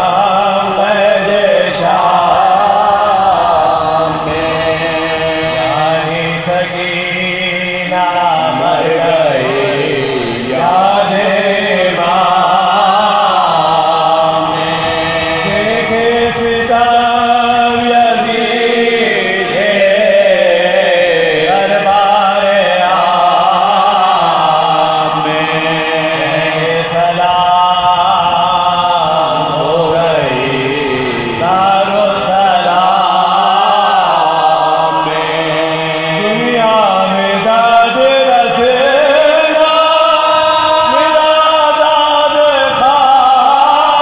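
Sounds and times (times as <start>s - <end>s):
man singing lament: 0.0s - 44.0s
men holding drone note: 0.0s - 44.0s.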